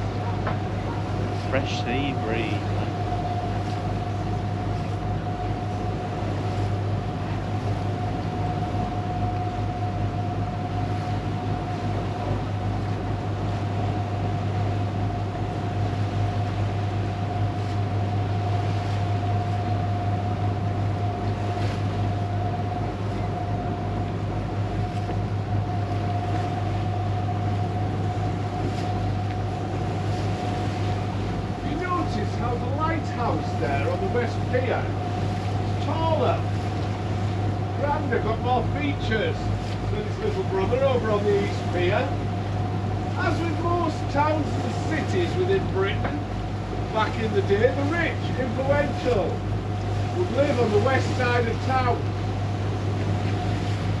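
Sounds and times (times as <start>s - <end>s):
boat engine droning: 0.0s - 54.0s
engine whine: 0.0s - 54.0s.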